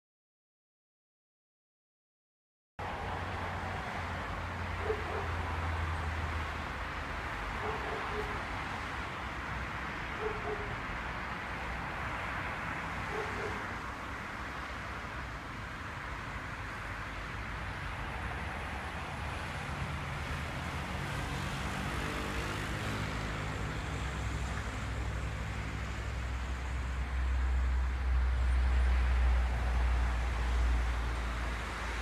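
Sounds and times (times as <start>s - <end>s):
distant road traffic hum: 2.8s - 32.0s.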